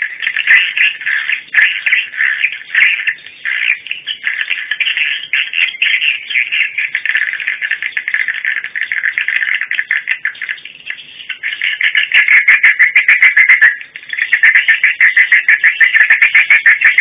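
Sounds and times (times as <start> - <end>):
recorded swiftlet chirps through speakers: 0.0 - 17.0.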